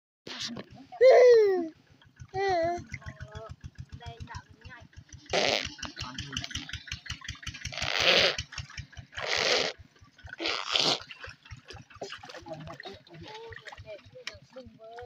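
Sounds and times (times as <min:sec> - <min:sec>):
pond water splashing: 0:00.4 - 0:15.0
rapid low pulsing: 0:01.7 - 0:15.0.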